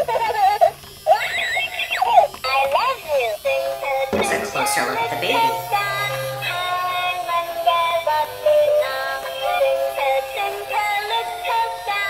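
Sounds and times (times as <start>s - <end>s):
electronic toy singing melody: 1.1s - 12.0s.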